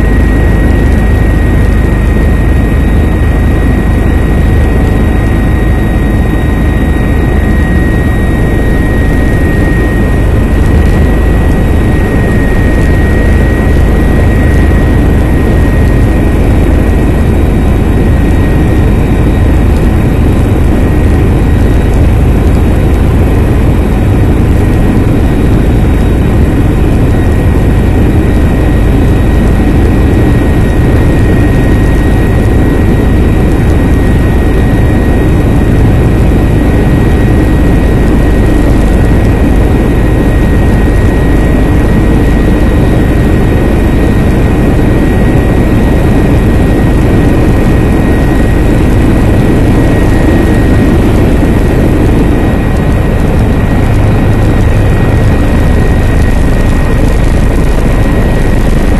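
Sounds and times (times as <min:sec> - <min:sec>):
helicopter rotor and engine: 0:00.0 - 0:58.9
high whine: 0:00.0 - 0:58.9.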